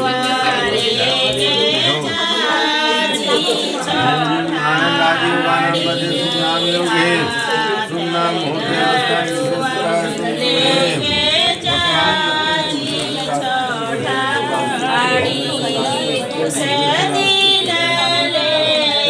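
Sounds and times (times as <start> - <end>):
voices singing a chant: 0.0 - 19.0.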